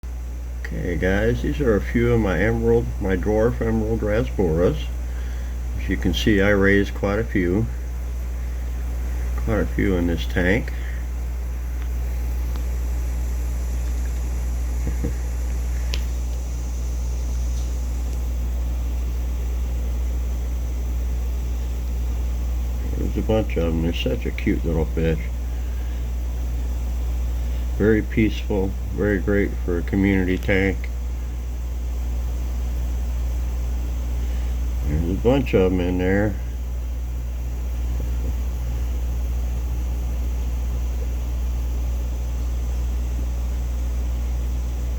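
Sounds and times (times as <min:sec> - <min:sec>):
aquarium equipment hum: 0:00.0 - 0:44.9.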